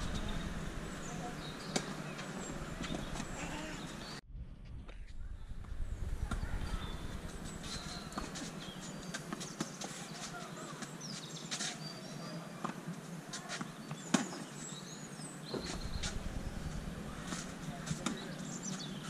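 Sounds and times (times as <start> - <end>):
birds chirping faintly: 0.0 - 4.2, 5.2 - 19.0.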